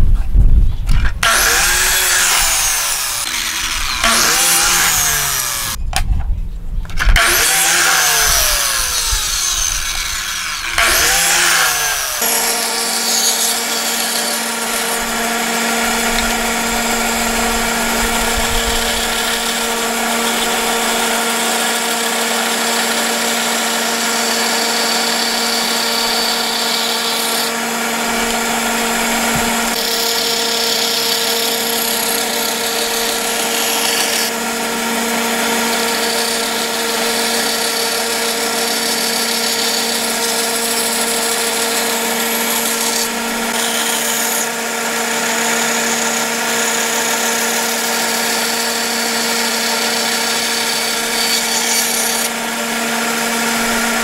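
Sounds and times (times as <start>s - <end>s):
saw blade cutting wood: 0.9s - 5.8s, 6.9s - 54.0s
band saw motor hum: 1.0s - 5.8s, 7.0s - 54.0s.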